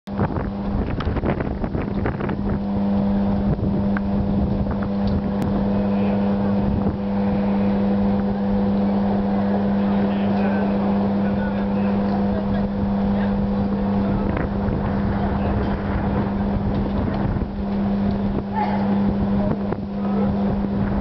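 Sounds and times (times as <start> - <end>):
electrical substation hum: 0.1 - 21.0.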